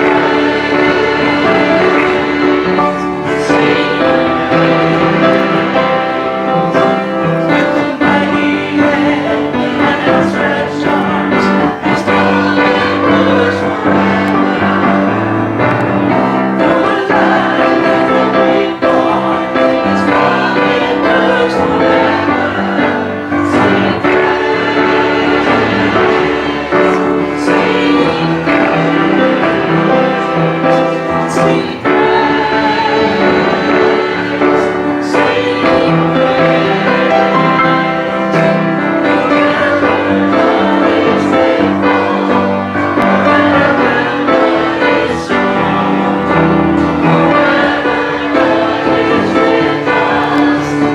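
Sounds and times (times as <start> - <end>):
voices singing gospel song: 0.0 - 50.9.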